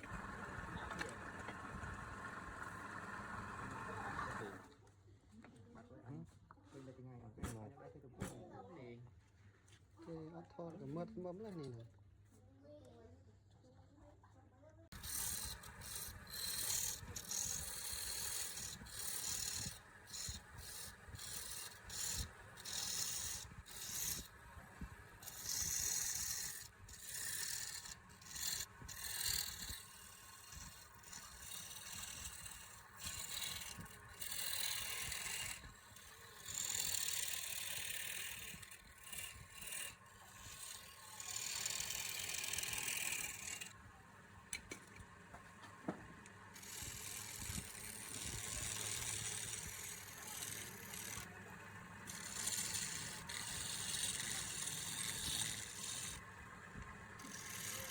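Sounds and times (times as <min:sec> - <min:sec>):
tool scraping spinning wood: 0:00.0 - 0:04.7, 0:14.9 - 0:57.9
wood lathe humming: 0:00.0 - 0:04.7, 0:14.9 - 0:57.9.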